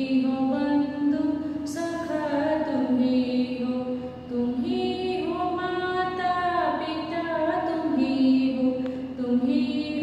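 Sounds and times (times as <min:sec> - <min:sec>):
woman chanting a prayer: 0:00.0 - 0:10.0.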